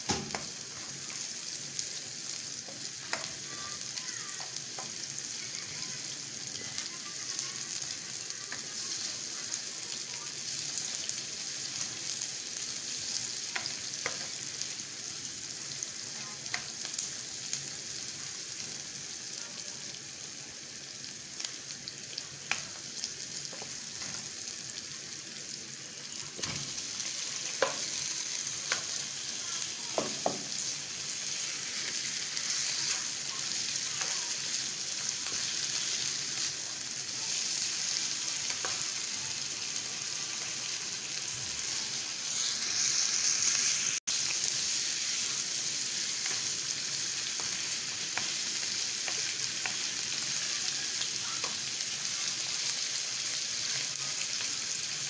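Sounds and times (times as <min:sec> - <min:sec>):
onions sizzling in a wok: 0:00.0 - 0:55.0.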